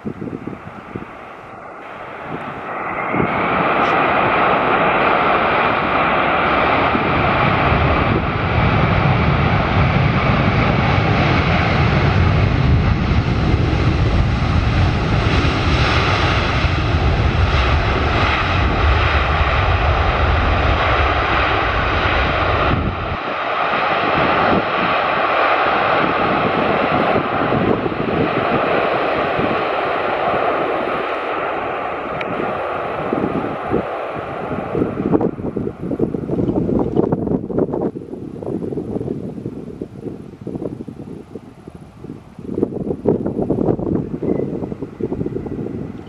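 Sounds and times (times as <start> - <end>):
deep rumble: 0.0 - 40.0
jet engine roar: 0.0 - 46.0.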